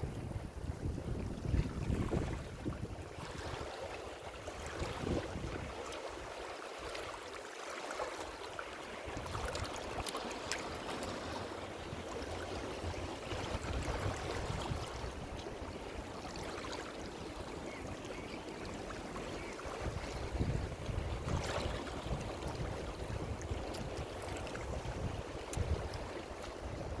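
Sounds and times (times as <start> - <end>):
ocean waves washing ashore: 0.0 - 27.0.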